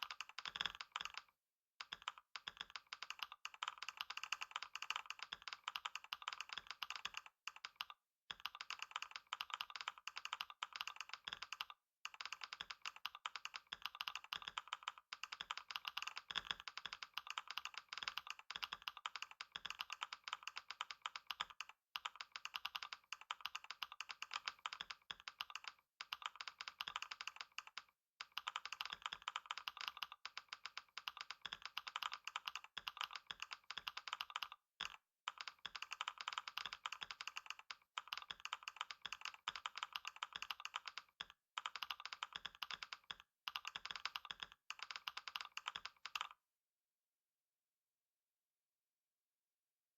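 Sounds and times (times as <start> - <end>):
fast typing on keyboard: 0.0 - 46.4.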